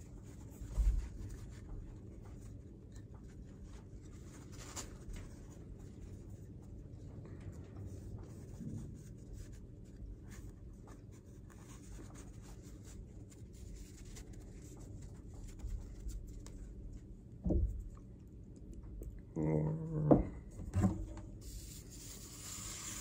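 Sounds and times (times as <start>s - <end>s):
paper towel rustling: 0.0s - 17.2s, 21.3s - 23.0s.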